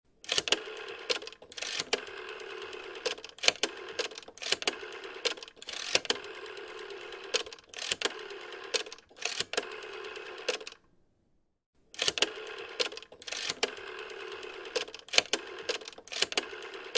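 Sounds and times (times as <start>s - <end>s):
rotary telephone dial clicking and whirring: 0.2s - 10.8s, 12.0s - 16.9s.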